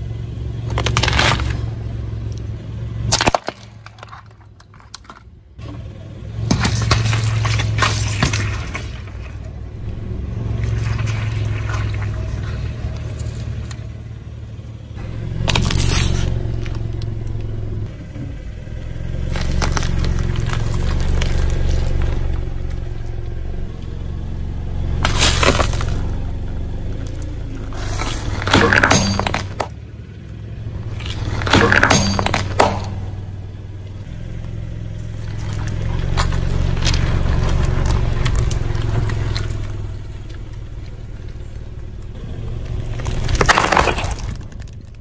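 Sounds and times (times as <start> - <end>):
car engine running: 0.0 - 45.0
tyres crushing objects: 0.6 - 5.8, 6.4 - 14.1, 15.0 - 17.9, 19.0 - 29.8, 30.7 - 45.0.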